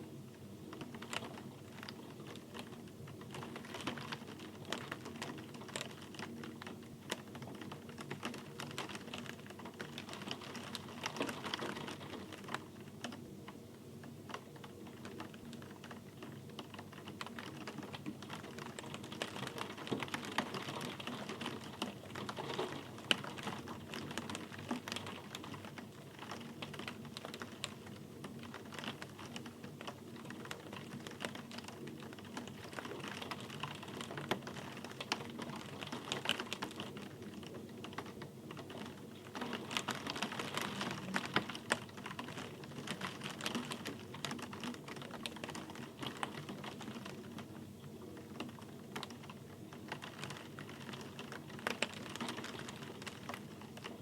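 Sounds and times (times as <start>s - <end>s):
raindrops ticking: 0.7s - 47.6s, 48.2s - 54.0s.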